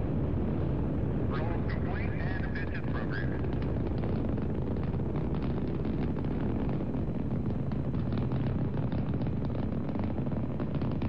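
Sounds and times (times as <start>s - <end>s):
rocket engines rumbling with crackle: 0.0s - 11.0s.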